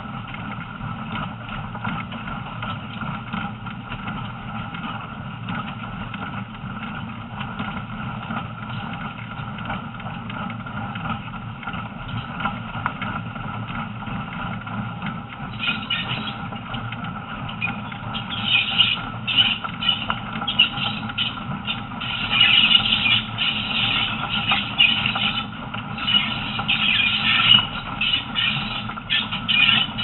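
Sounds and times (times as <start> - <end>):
wheels clicking and rattling: 0.0 - 30.0
train rumbling on track: 5.4 - 30.0.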